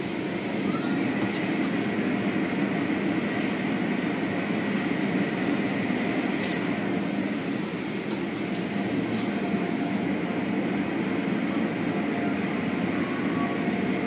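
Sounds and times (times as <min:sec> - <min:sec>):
car wash machinery running: 0:00.0 - 0:14.0.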